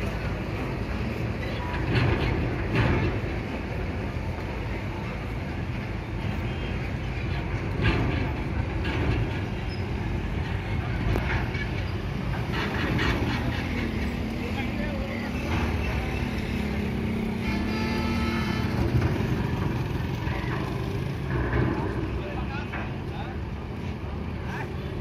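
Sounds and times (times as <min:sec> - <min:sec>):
low rumble of vehicles: 0:00.0 - 0:25.0.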